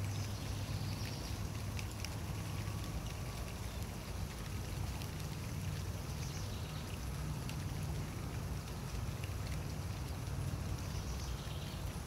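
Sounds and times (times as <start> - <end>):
light rain falling: 0.0 - 12.0.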